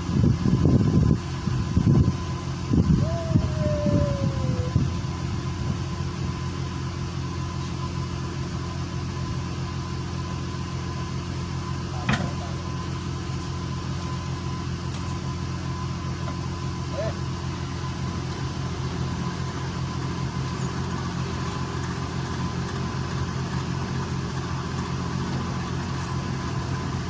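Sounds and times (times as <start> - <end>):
boat engine droning: 1.0 - 27.0.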